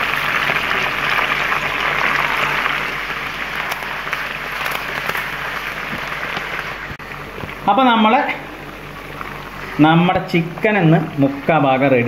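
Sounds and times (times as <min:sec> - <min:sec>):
chicken sizzling in hot oil: 0:00.0 - 0:11.5.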